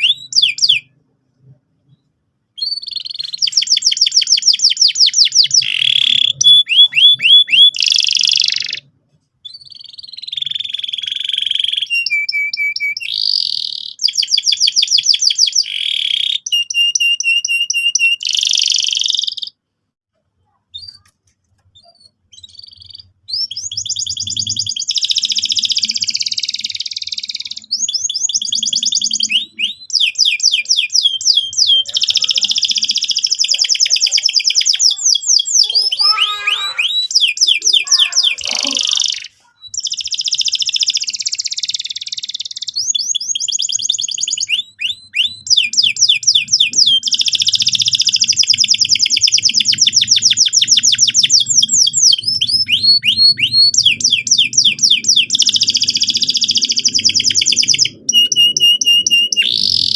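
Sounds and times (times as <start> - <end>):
canary singing trills and chirps: 0.0 - 19.6, 20.4 - 59.9.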